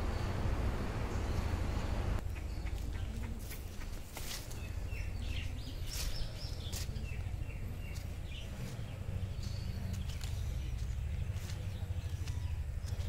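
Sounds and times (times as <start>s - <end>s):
birds chirping: 0.0s - 13.0s
low microphone rumble: 0.0s - 13.0s.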